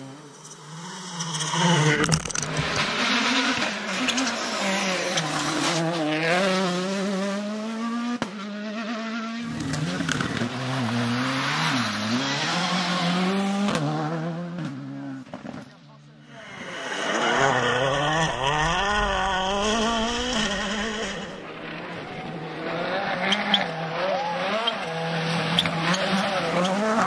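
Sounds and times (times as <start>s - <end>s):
rally car engines revving: 0.0s - 27.0s.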